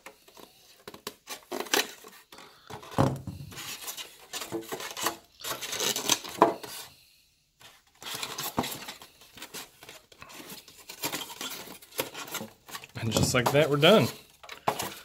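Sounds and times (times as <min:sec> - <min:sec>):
knife cutting and scraping styrofoam: 0:00.0 - 0:06.9, 0:07.6 - 0:15.0.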